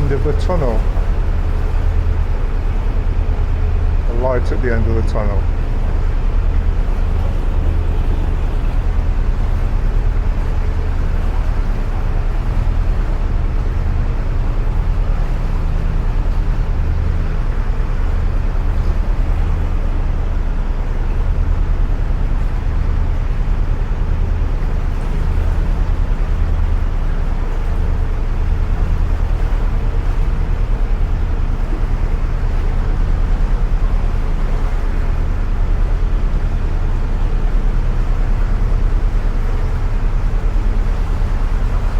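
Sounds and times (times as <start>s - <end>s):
boat engine throbbing drone: 0.0s - 41.9s.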